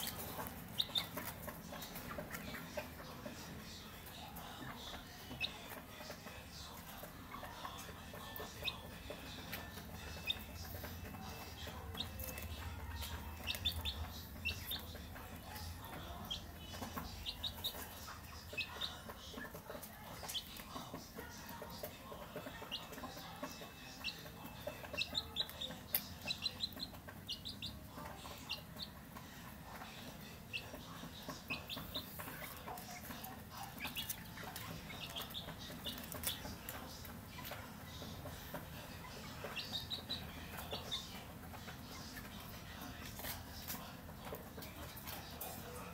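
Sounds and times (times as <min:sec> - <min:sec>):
chicks peeping: 0:00.0 - 0:45.9.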